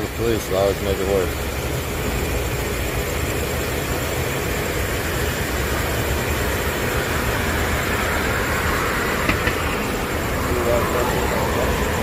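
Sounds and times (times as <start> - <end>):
vehicle rumble with hiss: 0.0 - 12.0.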